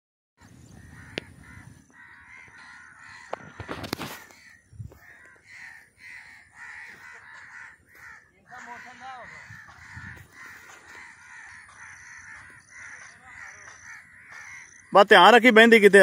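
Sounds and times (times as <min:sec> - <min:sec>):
birds calling: 0:00.4 - 0:16.0.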